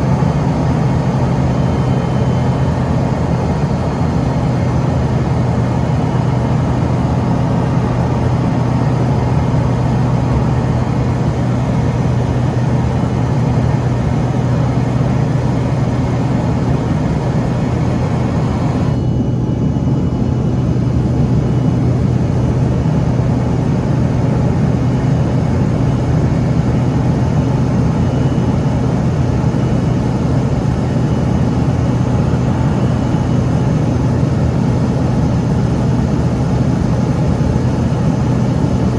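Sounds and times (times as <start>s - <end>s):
jet engine drone: 0.0s - 38.9s.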